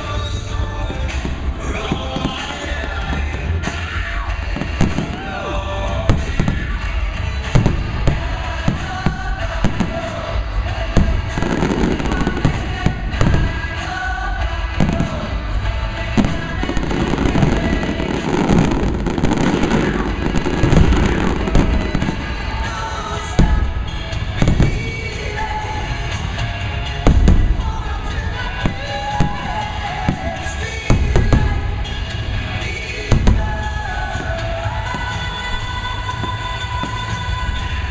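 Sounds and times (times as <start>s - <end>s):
fireworks bursting: 0.0s - 37.9s
music playing: 0.0s - 37.9s.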